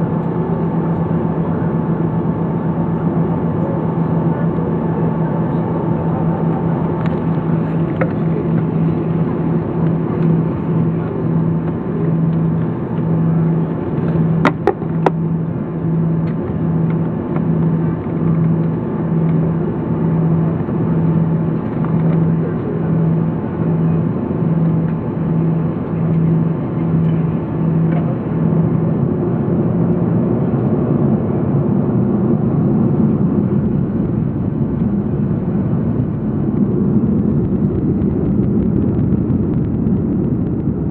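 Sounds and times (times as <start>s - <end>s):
aircraft engines rumbling: 0.0s - 40.9s
low pulse: 5.8s - 40.9s.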